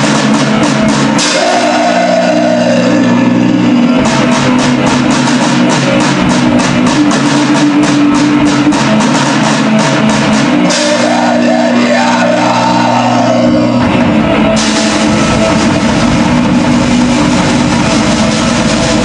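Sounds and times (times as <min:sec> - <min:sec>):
lo-fi black metal music: 0:00.0 - 0:19.0
dense low rumble: 0:01.8 - 0:19.0.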